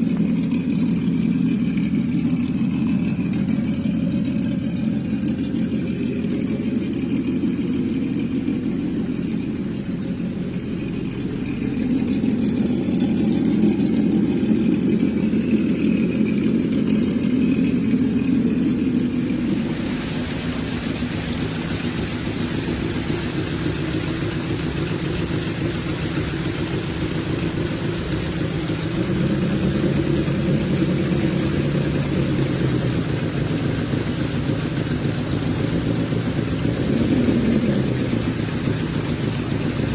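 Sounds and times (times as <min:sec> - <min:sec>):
high whine: 0:00.0 - 0:39.9
simulated engine idling: 0:00.0 - 0:39.9.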